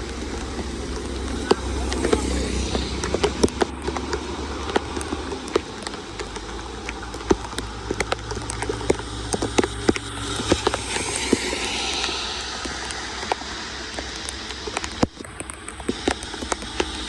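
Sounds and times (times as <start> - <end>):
rain pattering on water and ground: 0.0 - 17.0.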